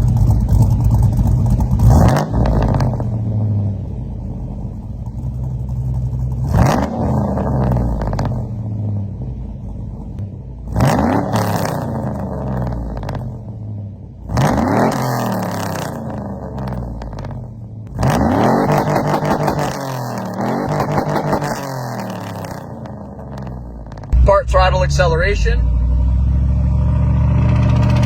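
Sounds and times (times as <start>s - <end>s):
vee-eight engine revving: 0.0s - 4.1s, 5.9s - 9.2s, 10.0s - 28.0s.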